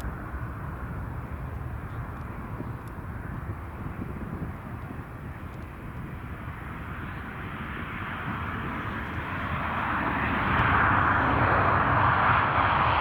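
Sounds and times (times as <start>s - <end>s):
jet engine rumble and hiss: 0.0s - 13.0s.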